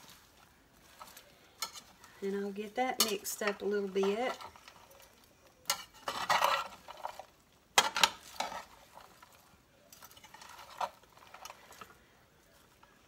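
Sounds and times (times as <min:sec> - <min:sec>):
metal spatula scraping a skillet: 0:00.0 - 0:12.0.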